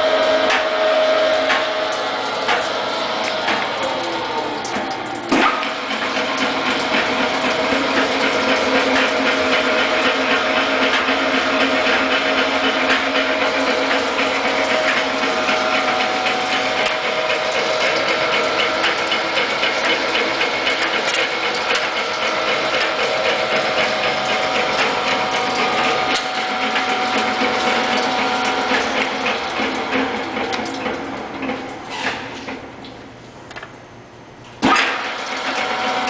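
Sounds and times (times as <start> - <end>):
meat grinder motor whirring: 0.0 - 30.8, 34.6 - 36.0.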